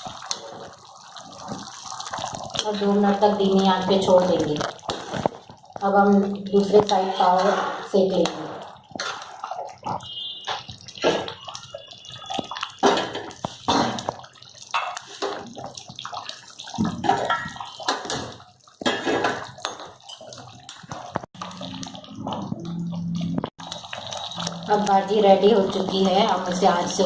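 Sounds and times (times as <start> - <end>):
thick food bubbling in pan: 0.0 - 27.0.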